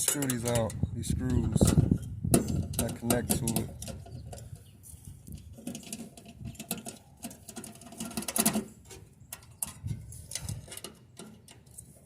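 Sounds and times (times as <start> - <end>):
metal screws squeaking and scraping: 0.0 - 12.0.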